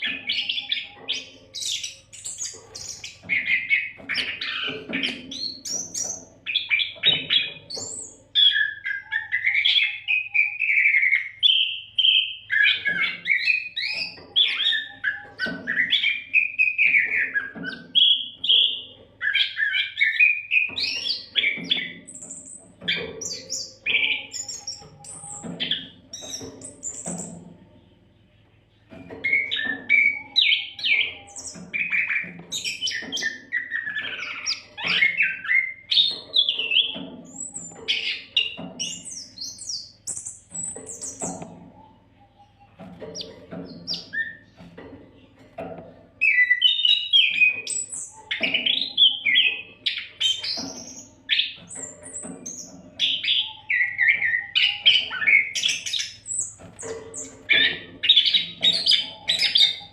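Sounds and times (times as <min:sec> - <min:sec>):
bird singing varied phrases: 0:00.0 - 0:27.4, 0:28.0 - 0:44.7, 0:46.2 - 0:59.9.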